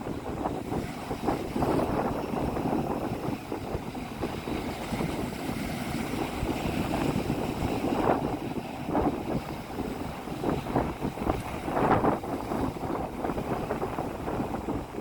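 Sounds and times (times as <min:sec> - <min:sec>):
strong wind buffeting microphone: 0:00.0 - 0:15.0
surf splashing on beach: 0:00.0 - 0:15.0.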